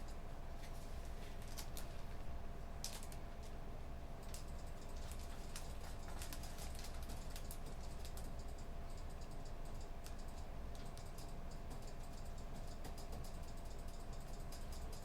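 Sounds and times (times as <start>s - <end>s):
low room hum with faint tone: 0.0s - 15.0s.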